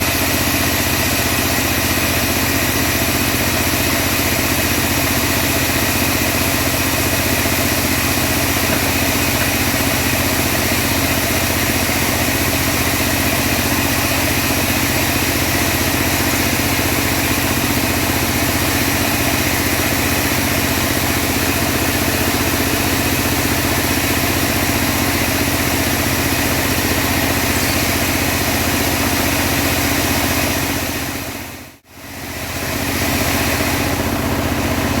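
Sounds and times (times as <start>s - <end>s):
sawmill engine droning: 0.0s - 35.0s.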